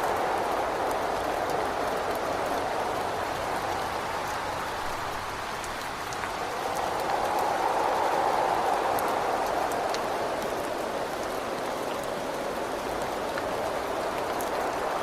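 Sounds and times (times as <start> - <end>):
steady rain: 0.0 - 15.0
wind against a window: 0.0 - 15.0.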